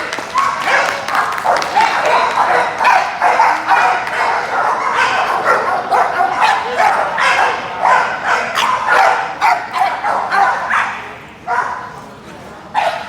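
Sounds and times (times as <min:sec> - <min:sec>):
dogs barking: 0:00.0 - 0:12.0, 0:12.8 - 0:13.0.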